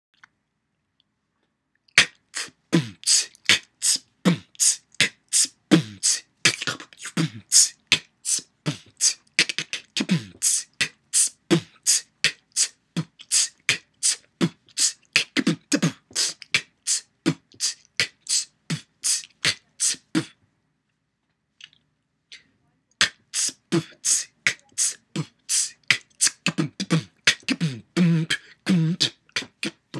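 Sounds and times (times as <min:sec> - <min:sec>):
person beatboxing: 0:02.0 - 0:20.4, 0:22.3 - 0:29.9.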